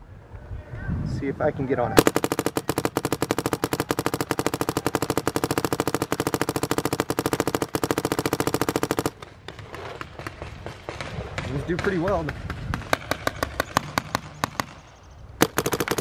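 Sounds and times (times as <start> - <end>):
paintball marker firing rapidly: 2.0 - 16.0.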